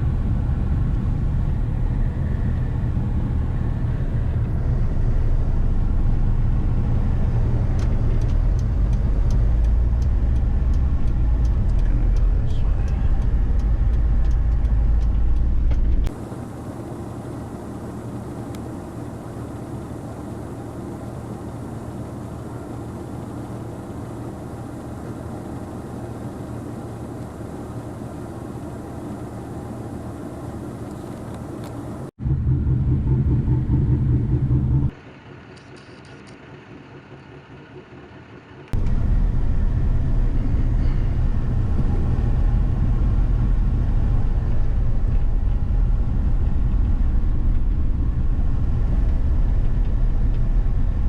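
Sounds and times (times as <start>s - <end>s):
car engine and road noise: 0.0s - 51.0s.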